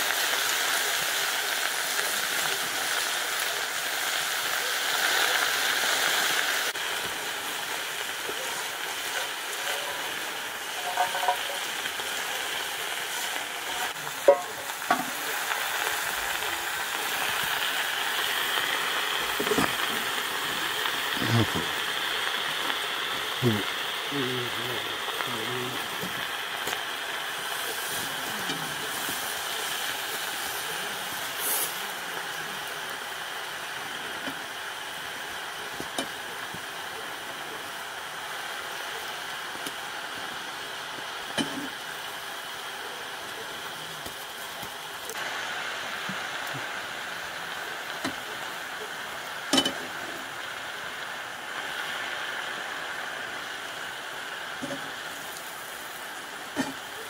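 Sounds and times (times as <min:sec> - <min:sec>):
greens sizzling in a wok: 0:00.0 - 0:57.0.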